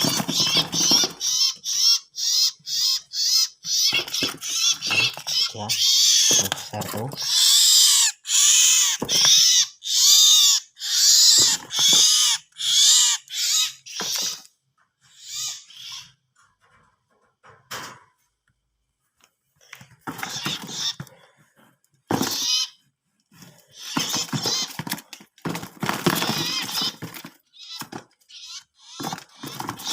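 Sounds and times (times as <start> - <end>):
bird screeching calls: 0.0 - 16.2, 20.1 - 21.2, 22.1 - 22.8, 23.4 - 29.9.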